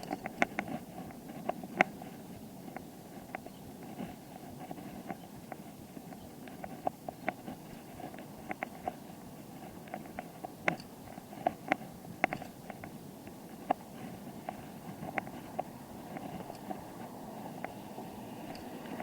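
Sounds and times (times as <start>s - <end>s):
bike clicks and rattles: 0.0s - 17.8s
bicycle tyres rumbling on road: 0.0s - 19.0s.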